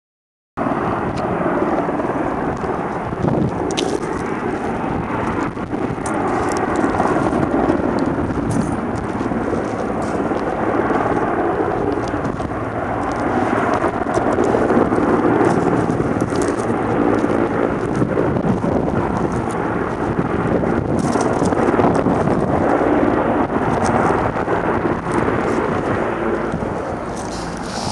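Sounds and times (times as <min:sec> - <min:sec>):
distant helicopter rotor rumble: 0:00.6 - 0:27.9.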